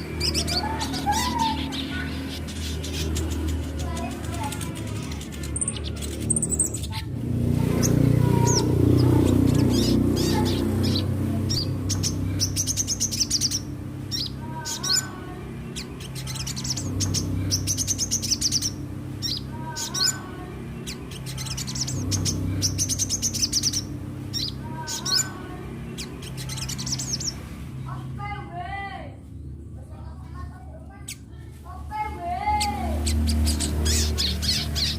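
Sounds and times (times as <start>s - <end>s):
bird singing high chirps and trills: 0.0s - 28.0s, 32.4s - 34.9s.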